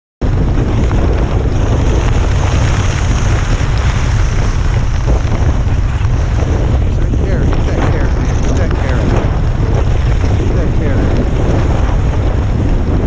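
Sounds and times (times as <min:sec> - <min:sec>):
gusty wind buffeting microphone: 0:00.2 - 0:13.0.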